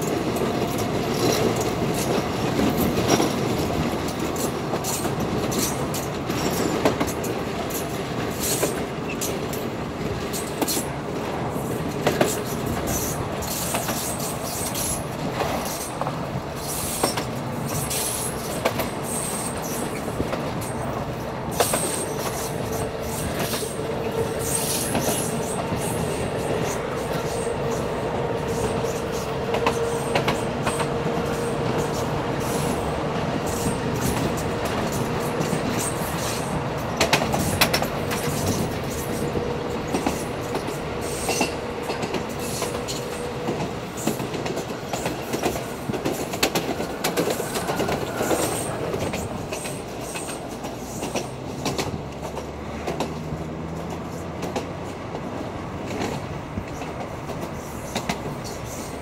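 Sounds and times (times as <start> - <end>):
train rolling rumble: 0.0 - 59.0.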